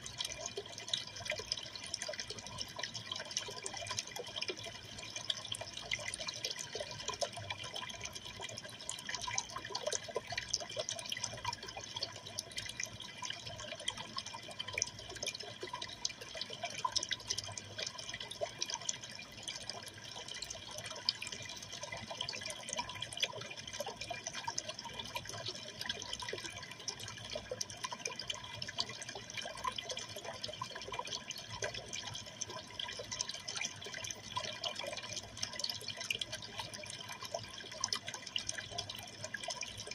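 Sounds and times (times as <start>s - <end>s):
aquarium water trickling: 0.0s - 39.9s
water drips and plinks: 0.0s - 39.9s.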